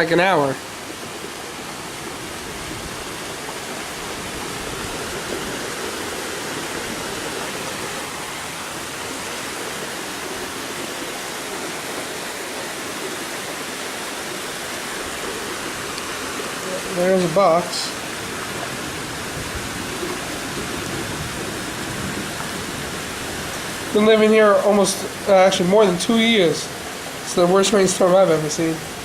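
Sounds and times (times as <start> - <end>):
floodwater rushing: 0.0 - 29.0
heavy rain: 0.0 - 29.0.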